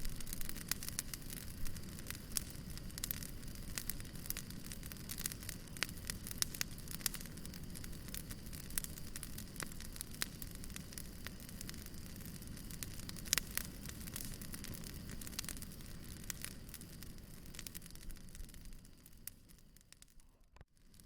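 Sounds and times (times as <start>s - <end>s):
fire crackling and popping: 0.0s - 21.0s
low rumble of flame: 0.0s - 21.0s.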